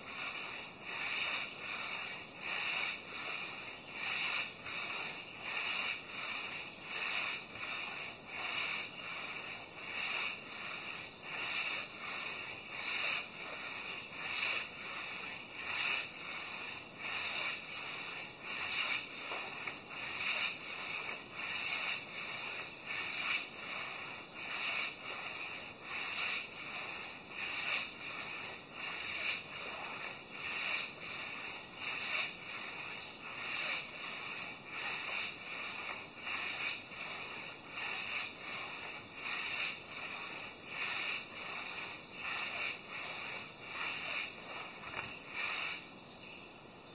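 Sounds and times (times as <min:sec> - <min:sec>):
hand saw cutting log: 0:02.6 - 0:45.8.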